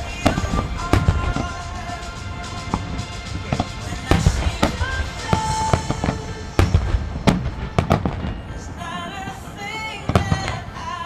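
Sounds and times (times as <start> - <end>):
firework crackling: 0.0 - 11.0
firework shells booming: 0.0 - 11.0.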